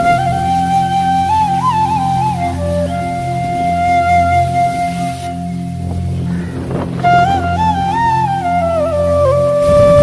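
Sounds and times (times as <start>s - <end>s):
sliding melody line: 0.0s - 10.0s
steady low drone: 0.0s - 10.0s.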